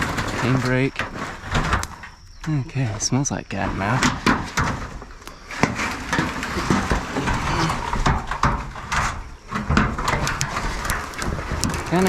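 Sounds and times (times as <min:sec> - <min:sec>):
rustling and scraping: 0:00.0 - 0:02.4, 0:03.7 - 0:12.0.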